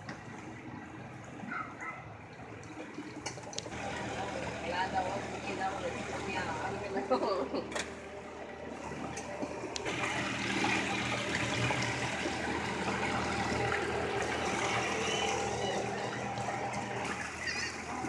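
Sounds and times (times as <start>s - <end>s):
outboard motors running: 0.0s - 18.0s
water churning and splashing: 0.0s - 18.0s.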